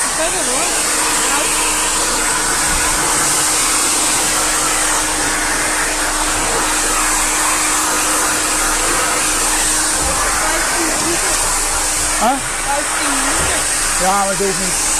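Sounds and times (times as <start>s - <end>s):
blower dryer air whoosh: 0.0s - 14.9s
motor hum: 0.0s - 14.9s.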